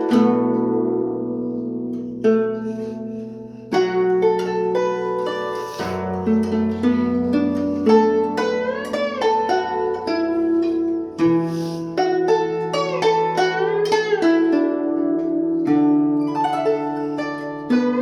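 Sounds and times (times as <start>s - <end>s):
plucked zither melody: 0.0s - 18.0s.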